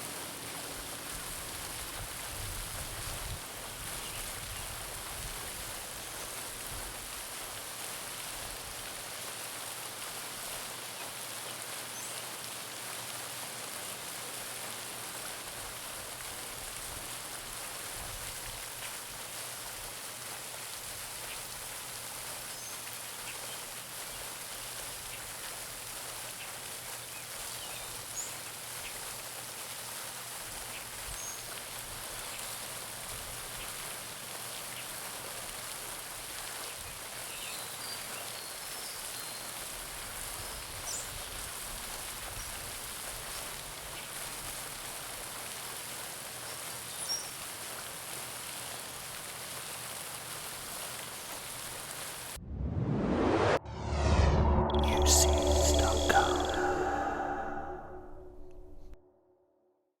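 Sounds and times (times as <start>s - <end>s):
fountain water splashing: 0.0s - 52.4s.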